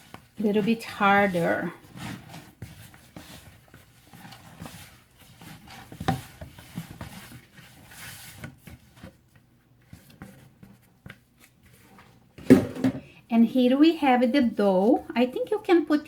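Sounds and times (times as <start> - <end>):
dough rubbing and scraping in bowl: 0.0 - 12.4, 13.3 - 16.0.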